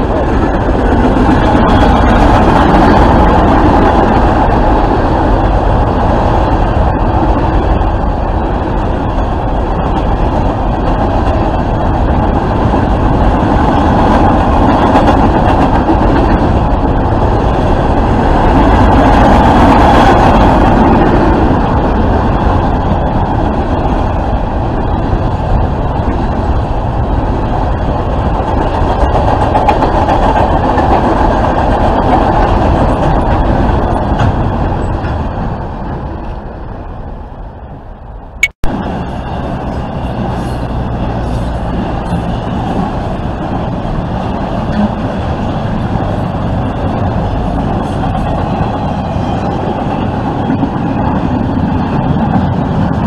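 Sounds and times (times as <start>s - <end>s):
freight train wheels rumbling on rails: 0.0s - 53.0s.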